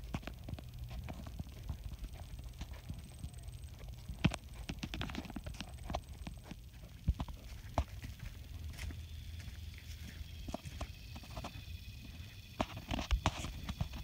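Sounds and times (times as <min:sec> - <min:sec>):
footsteps on sandy trail: 0:00.0 - 0:14.0.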